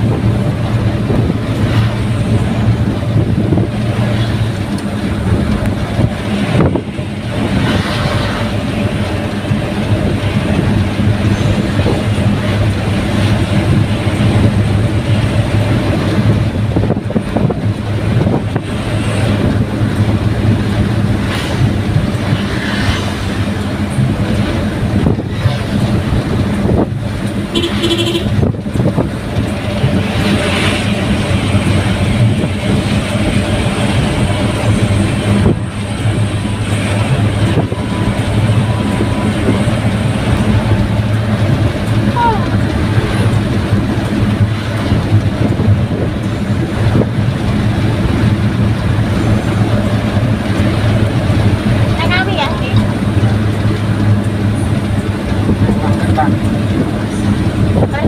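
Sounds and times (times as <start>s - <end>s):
vehicle engine hum and road noise: 0.0s - 58.0s.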